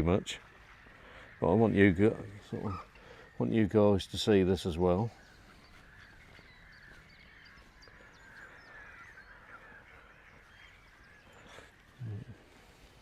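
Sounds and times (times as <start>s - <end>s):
waterbirds calling: 0.0s - 13.0s.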